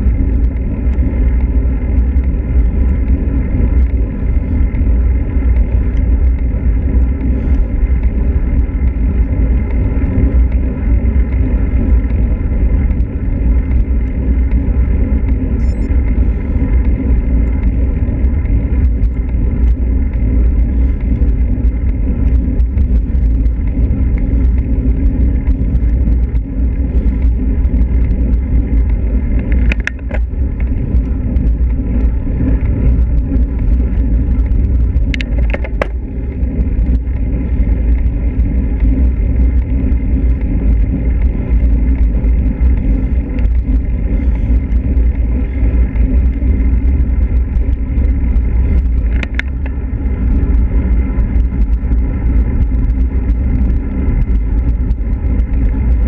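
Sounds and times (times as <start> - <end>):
tyre and road noise: 0.0 - 56.0
wind rumble on microphone: 0.0 - 56.0.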